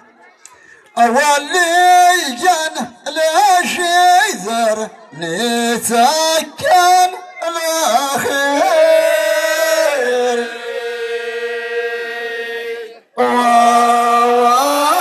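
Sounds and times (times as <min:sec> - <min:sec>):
men chanting: 0:01.0 - 0:15.0.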